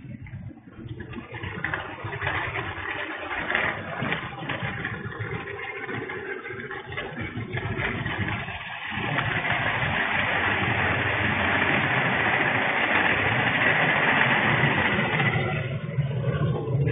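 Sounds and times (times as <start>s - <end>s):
freight train wheels on rails: 0.0s - 16.9s.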